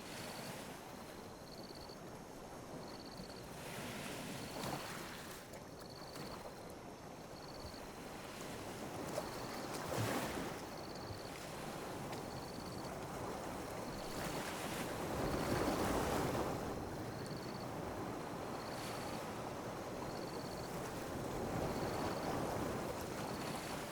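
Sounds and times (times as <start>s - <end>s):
ocean waves lapping ashore: 0.0s - 23.9s.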